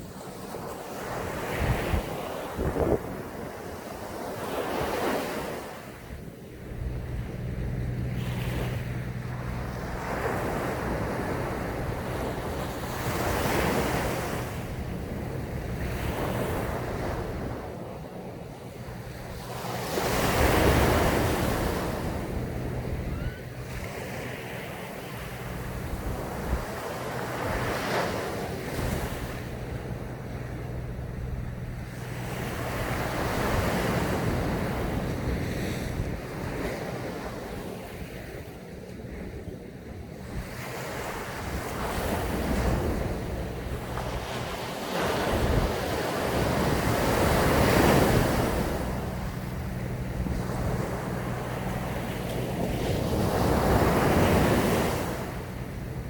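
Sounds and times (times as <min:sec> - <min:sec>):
sea waves breaking on sand: 0:00.0 - 0:56.0
steady low rumble: 0:05.9 - 0:36.6, 0:39.3 - 0:56.0.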